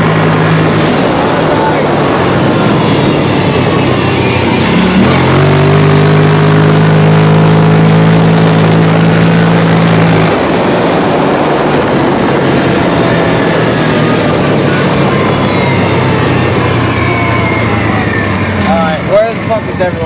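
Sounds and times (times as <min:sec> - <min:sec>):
engine pulling under throttle: 0:00.0 - 0:20.0
heavy wind: 0:00.0 - 0:20.0.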